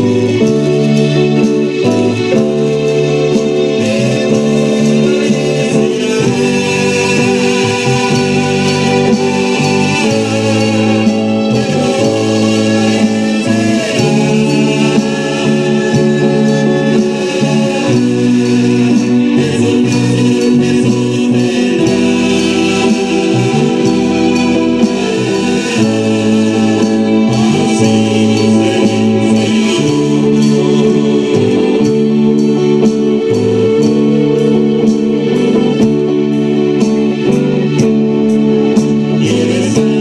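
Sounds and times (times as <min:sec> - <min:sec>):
electronic drum kit: 0:00.0 - 0:40.0
guitar: 0:00.0 - 0:40.0
keyboard: 0:00.0 - 0:40.0
people singing: 0:00.0 - 0:40.0.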